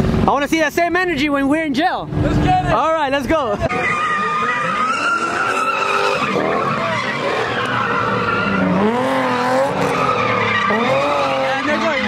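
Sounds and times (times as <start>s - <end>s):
car tyres squealing: 1.6s - 12.0s.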